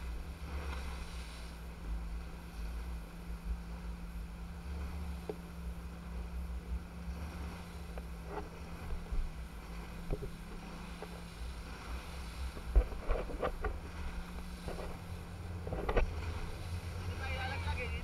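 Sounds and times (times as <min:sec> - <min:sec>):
steady low hum: 0:00.0 - 0:18.0
wind and water rushing: 0:00.0 - 0:18.0.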